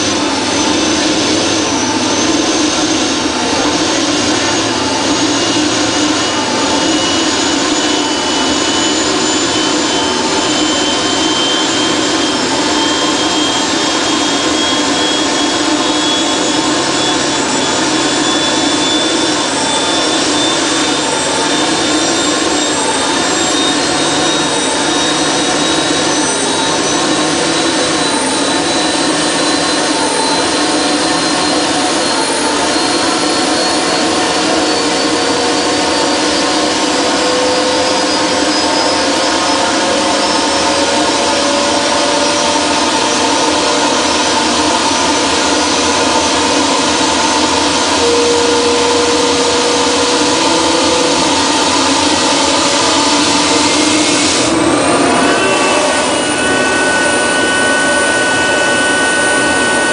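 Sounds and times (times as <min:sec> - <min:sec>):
gas turbine rushing: 0:00.0 - 0:59.9
high turbine whine: 0:00.0 - 0:59.9.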